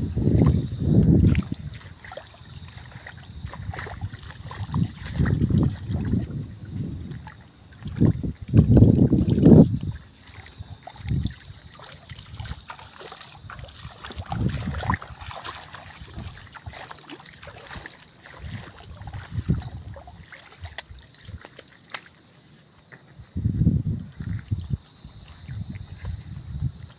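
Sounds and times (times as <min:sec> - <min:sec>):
wind rumble on microphone: 0:00.0 - 0:21.6, 0:23.1 - 0:26.9
footsteps wading through water: 0:00.0 - 0:26.9
splashing and crackling shoots: 0:00.3 - 0:23.0.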